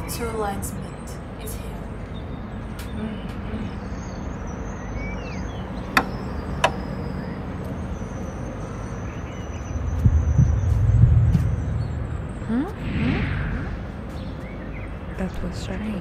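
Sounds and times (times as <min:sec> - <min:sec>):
distant road traffic rumble: 0:01.2 - 0:16.0.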